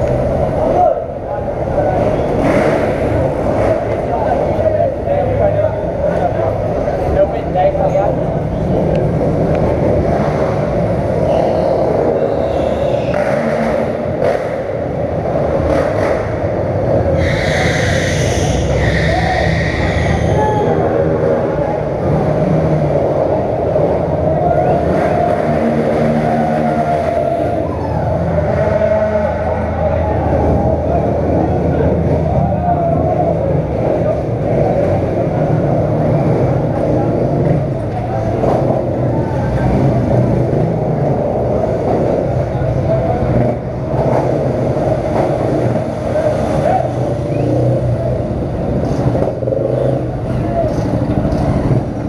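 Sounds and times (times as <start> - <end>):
motorcycle and car engines: 0.0 - 52.0.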